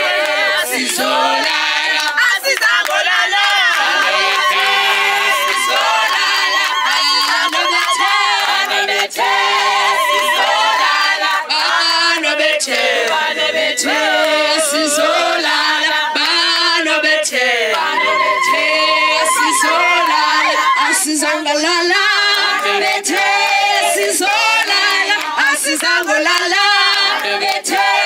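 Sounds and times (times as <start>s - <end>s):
group singing unaccompanied: 0.0s - 28.0s.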